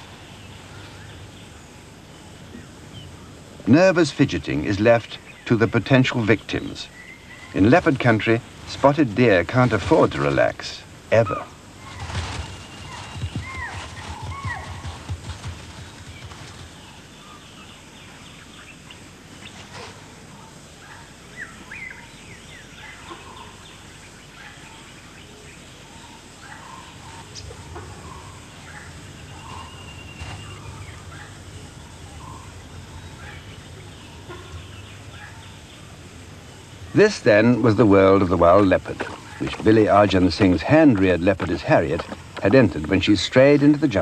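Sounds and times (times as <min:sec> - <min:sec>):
steady low hiss and hum: 0:00.0 - 0:44.0
bird calls and chirps: 0:04.1 - 0:10.5, 0:11.1 - 0:44.0.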